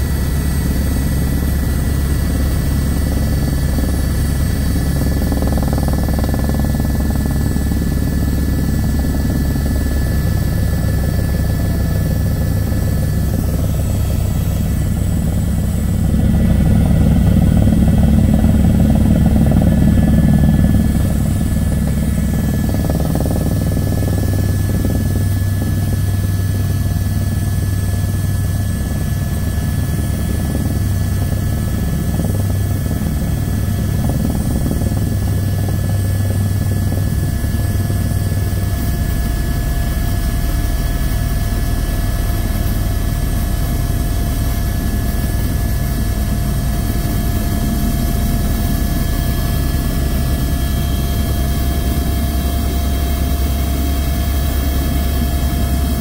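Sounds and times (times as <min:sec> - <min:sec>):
helicopter rotor and engine rumble: 0:00.0 - 0:56.0.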